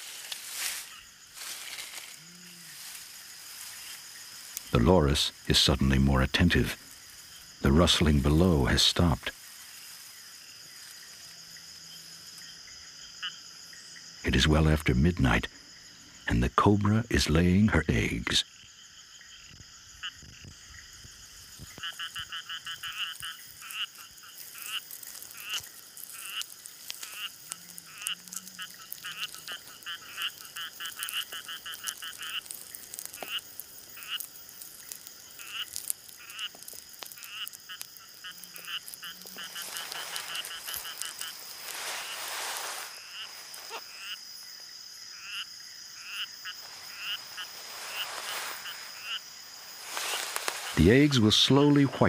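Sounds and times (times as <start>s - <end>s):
high-pitched insect drone: 0.0s - 14.2s, 18.4s - 52.0s
rustling hiss: 0.0s - 16.6s, 19.4s - 52.0s
frogs croaking: 0.0s - 52.0s.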